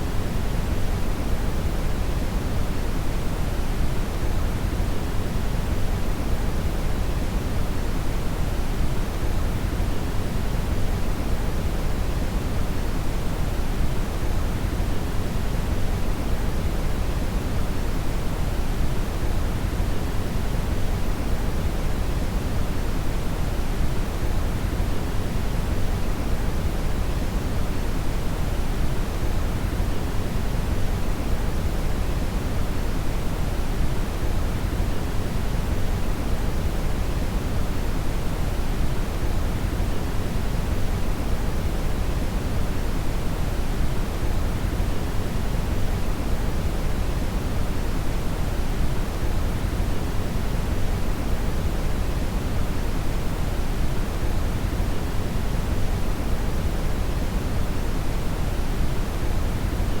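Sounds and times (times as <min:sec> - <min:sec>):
brown noise hiss: 0:00.0 - 1:00.0.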